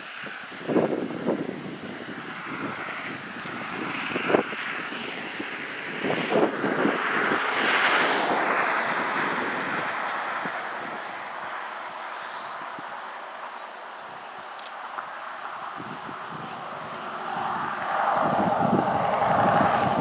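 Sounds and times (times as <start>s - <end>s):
vehicle passing: 2.2s - 14.2s, 15.0s - 20.0s.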